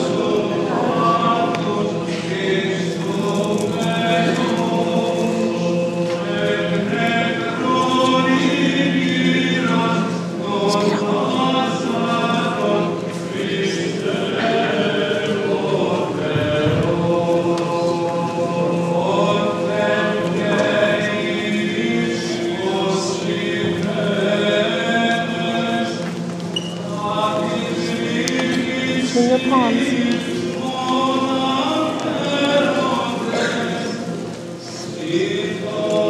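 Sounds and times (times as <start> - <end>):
choir chanting over held low note: 0.0 - 36.0.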